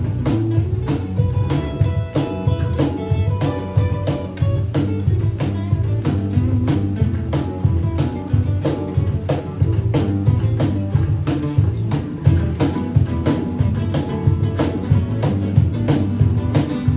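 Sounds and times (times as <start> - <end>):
band playing instrumental: 0.0 - 16.9.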